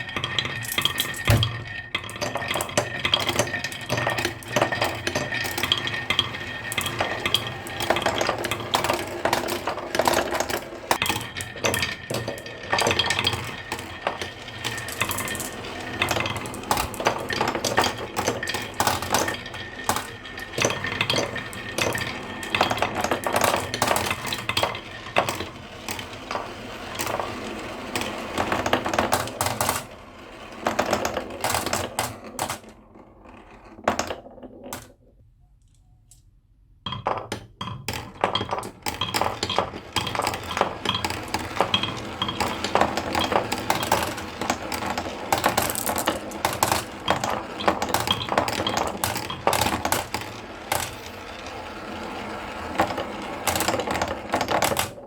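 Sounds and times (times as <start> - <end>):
marbles clattering down a run: 0.0 - 35.1, 36.8 - 55.0.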